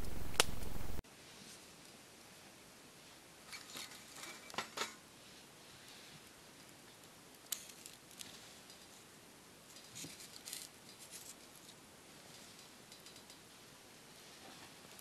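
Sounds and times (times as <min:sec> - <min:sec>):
burning tinder crackling: 0:00.0 - 0:02.2, 0:03.0 - 0:15.0.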